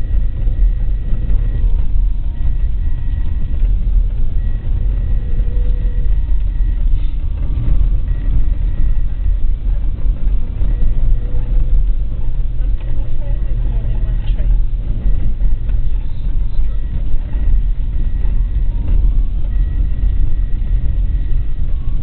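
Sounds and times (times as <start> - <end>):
car engine rumble: 0.0 - 22.0.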